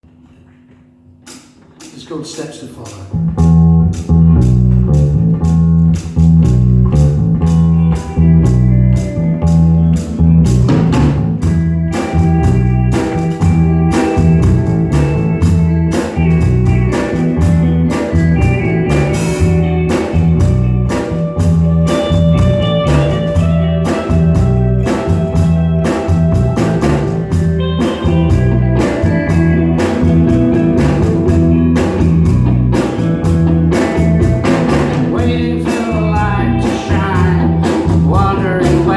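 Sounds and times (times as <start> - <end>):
rock band playing: 1.2 - 38.9
repeating bass line: 3.1 - 38.9.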